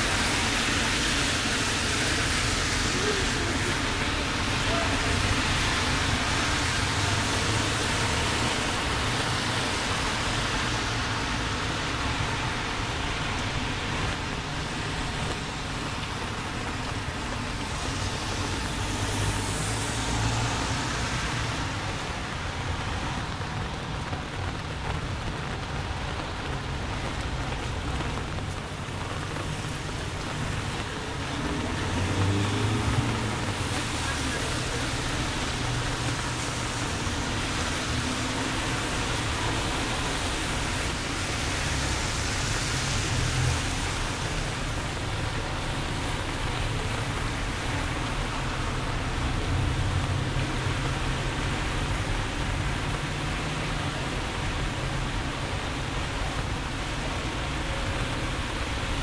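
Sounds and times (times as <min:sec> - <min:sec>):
heavy rain falling: 0:00.0 - 0:59.0
tyres on wet road: 0:00.0 - 0:59.0.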